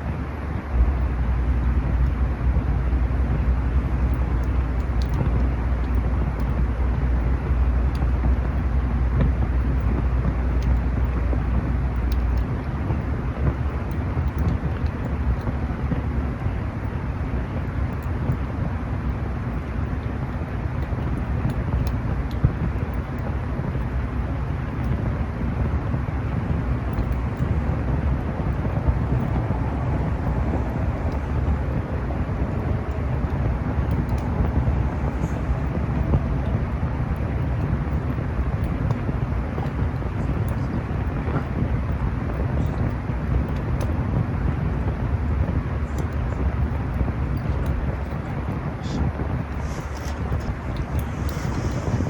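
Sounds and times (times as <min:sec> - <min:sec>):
deep rumble: 0:00.0 - 0:52.0
fire crackles: 0:00.0 - 0:52.0
campfire rushing: 0:00.1 - 0:52.0.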